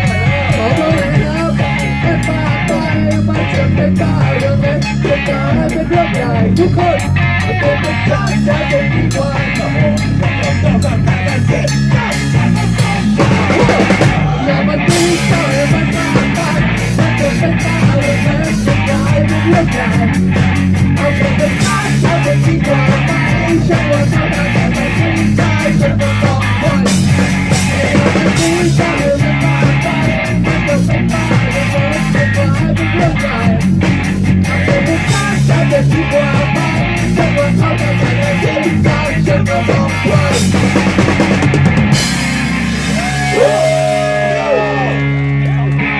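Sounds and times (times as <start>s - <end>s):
drum kit beat: 0.0s - 45.2s
electric guitar: 0.0s - 45.9s.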